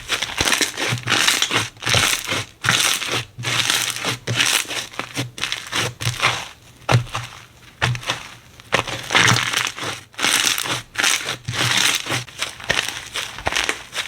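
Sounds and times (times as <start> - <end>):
slime squishing: 0.0 - 14.0.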